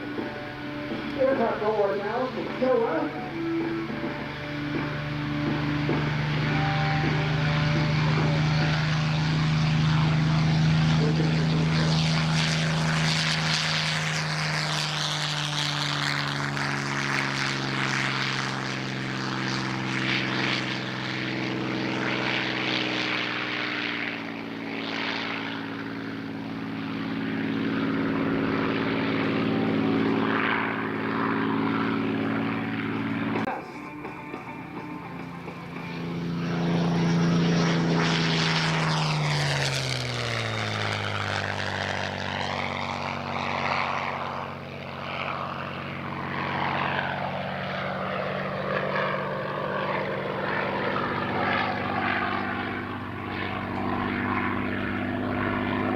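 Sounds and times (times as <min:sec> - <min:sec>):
propeller plane engine running: 0:00.0 - 0:55.9.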